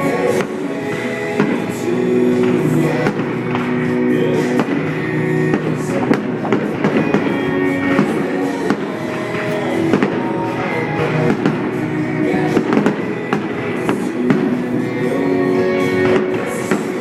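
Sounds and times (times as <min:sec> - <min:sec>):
fireworks bangs and crackles: 0:00.0 - 0:17.0
pop music with steady beat: 0:00.0 - 0:17.0.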